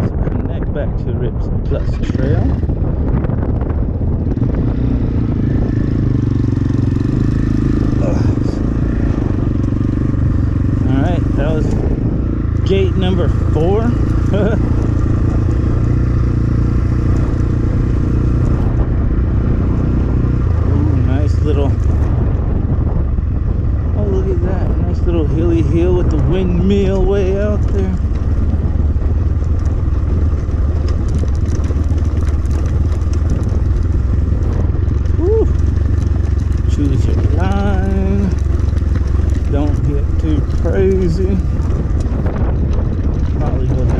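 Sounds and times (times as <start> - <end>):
dirt bike engine running: 0.0 - 43.9
wind buffeting microphone: 0.0 - 43.9.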